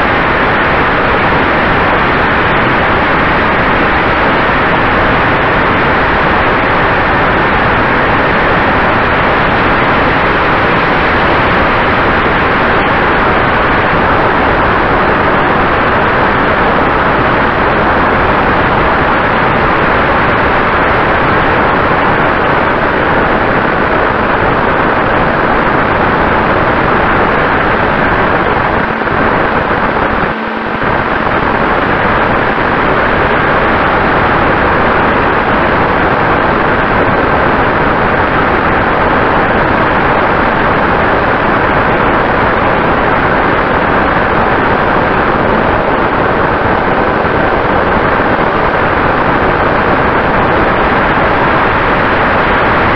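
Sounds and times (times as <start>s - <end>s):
rushing airflow on microphone: 0.0s - 52.8s.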